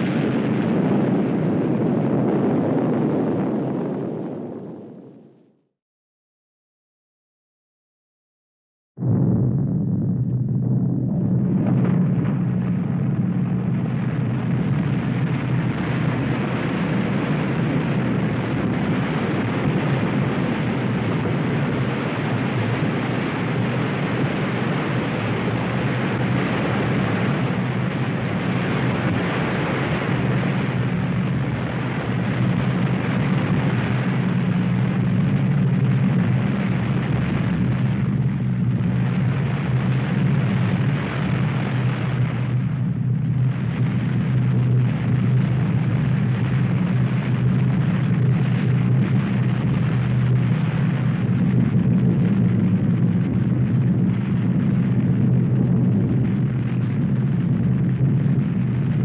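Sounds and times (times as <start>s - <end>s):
deep rumbling roar: 9.0s - 59.0s.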